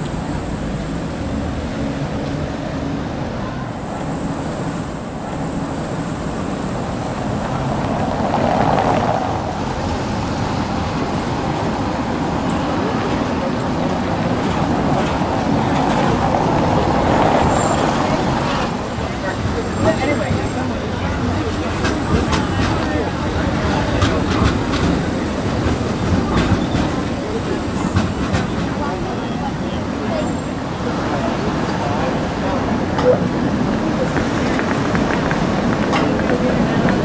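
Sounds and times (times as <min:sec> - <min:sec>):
tram rolling on rails: 0:00.0 - 0:37.0.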